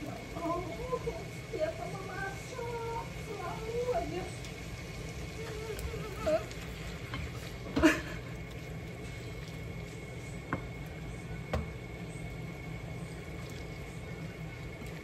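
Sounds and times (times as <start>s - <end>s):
food sizzling in a frying pan: 0.0s - 15.0s
steady low hum: 0.0s - 15.0s.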